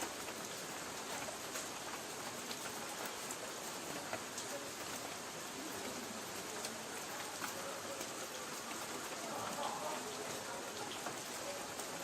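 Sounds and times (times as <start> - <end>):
light rain on a tin roof: 0.0 - 12.0.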